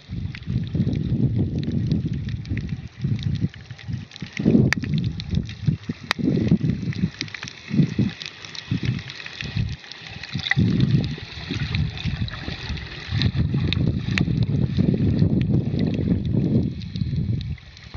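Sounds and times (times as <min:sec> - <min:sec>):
small clicks and crackles: 0:00.0 - 0:17.9
underwater water sloshing: 0:00.0 - 0:17.9.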